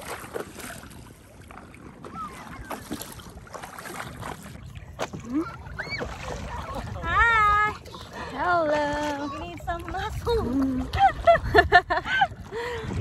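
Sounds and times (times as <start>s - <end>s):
paddle splashes: 0.0s - 13.0s
water sloshing against paddle board: 0.0s - 13.0s
wind buffeting microphone: 0.6s - 13.0s.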